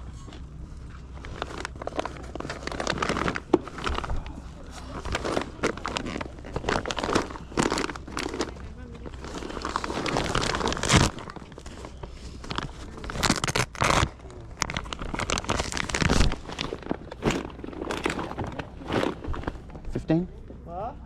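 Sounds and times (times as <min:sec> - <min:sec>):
rustling and crinkling handling noise: 0:00.0 - 0:20.6.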